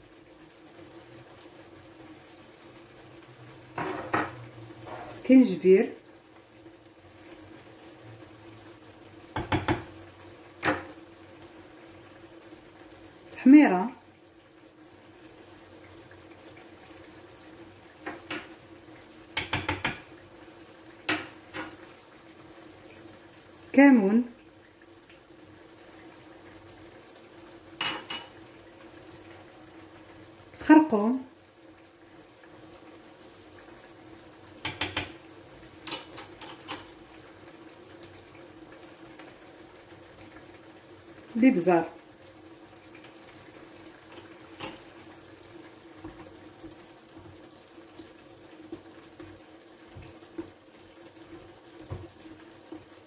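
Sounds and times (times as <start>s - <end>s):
faint simmering: 0.0s - 53.0s.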